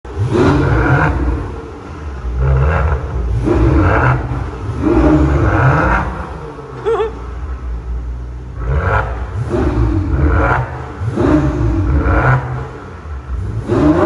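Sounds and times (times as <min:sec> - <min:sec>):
sports car engine revving: 0:00.1 - 0:14.0.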